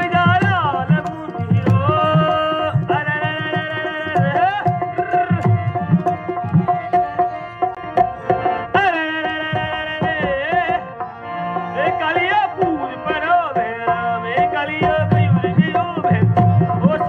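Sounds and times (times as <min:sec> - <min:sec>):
man singing ornamented melody: 0:00.0 - 0:17.0.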